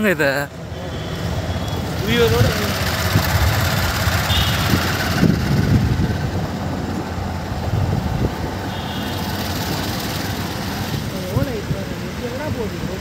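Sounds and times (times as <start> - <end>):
traffic noise: 0.0 - 13.0
motorcycle engine rumble: 0.5 - 13.0.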